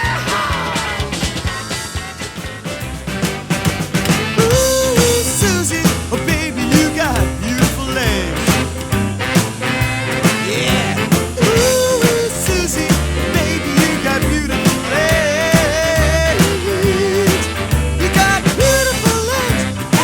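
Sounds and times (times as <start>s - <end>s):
bass line: 0.0s - 20.0s
drums: 0.0s - 20.0s
electric guitar bending notes: 0.0s - 20.0s.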